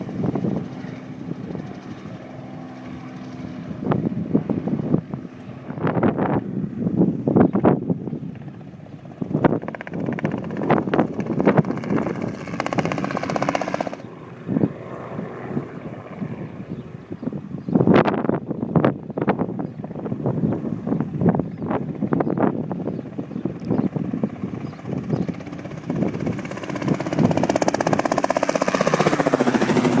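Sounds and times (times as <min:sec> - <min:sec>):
helicopter rotor beating: 0:00.0 - 0:30.0
wind buffeting microphone: 0:00.0 - 0:30.0.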